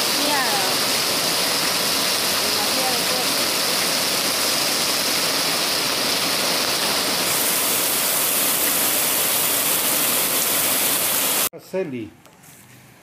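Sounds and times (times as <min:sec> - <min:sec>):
heavy rain on puddles: 0:00.0 - 0:11.5.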